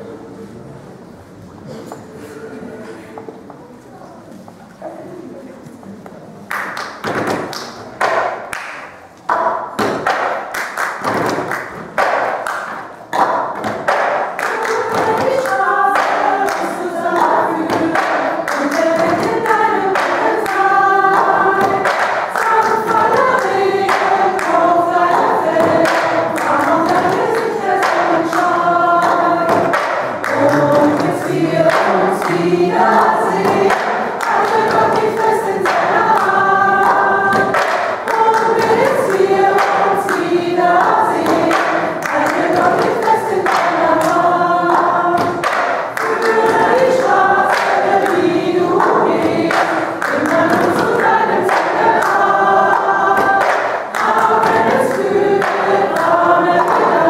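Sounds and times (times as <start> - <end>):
choir singing: 11.3 - 57.0.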